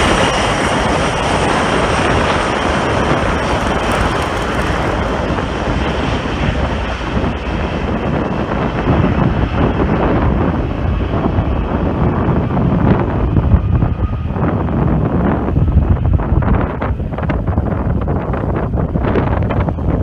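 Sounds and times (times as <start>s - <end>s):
jet engines running: 0.0s - 20.0s
wind noise on microphone: 0.0s - 20.0s.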